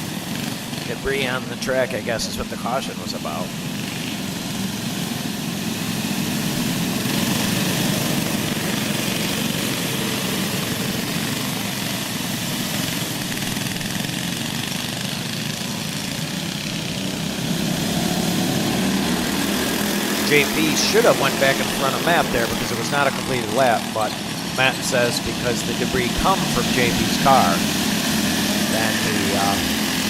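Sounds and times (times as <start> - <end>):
go-kart engines droning: 0.0 - 30.0.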